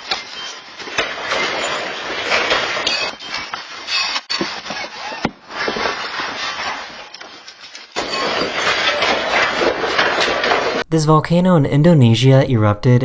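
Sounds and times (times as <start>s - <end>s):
room contents rattling and clattering: 0.0s - 10.9s.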